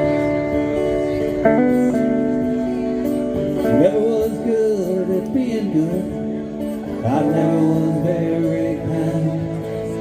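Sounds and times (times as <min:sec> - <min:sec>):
band playing: 0:00.0 - 0:10.0
guitar chords ringing: 0:00.0 - 0:10.0.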